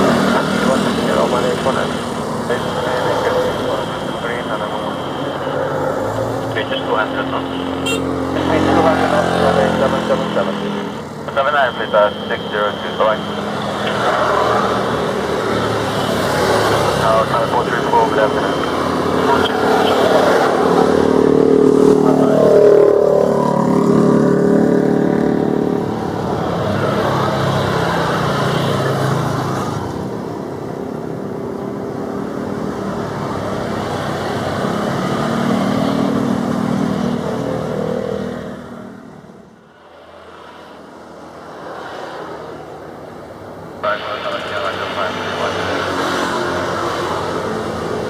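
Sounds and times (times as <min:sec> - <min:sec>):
distant jet noise: 0:00.0 - 0:48.0
jet engines whining and rumbling: 0:00.0 - 0:48.0.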